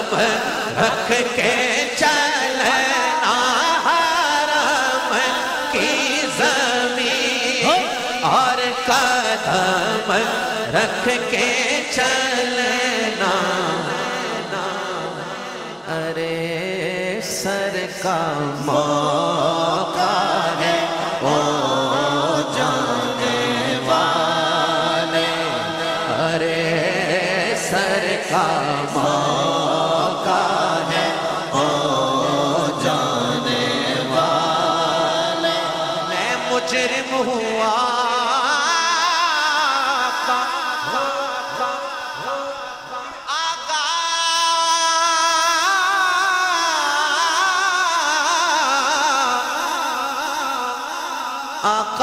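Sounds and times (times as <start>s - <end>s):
man singing devotional chant: 0.0s - 52.0s.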